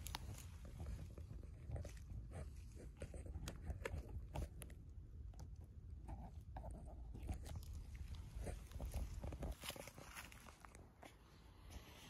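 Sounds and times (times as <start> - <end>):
dry leaves and twigs rustling: 0.0 - 4.9, 7.0 - 12.0
crunching and crackling clicks: 0.0 - 11.2.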